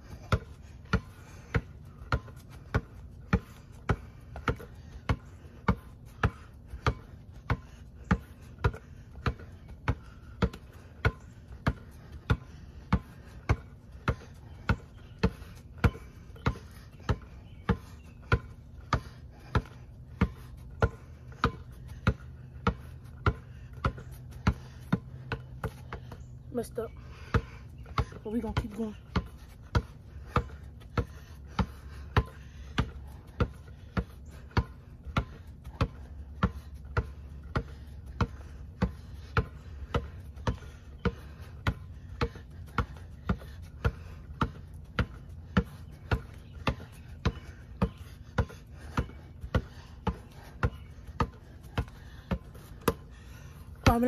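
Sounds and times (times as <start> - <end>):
basketball bouncing: 0.0 - 54.0.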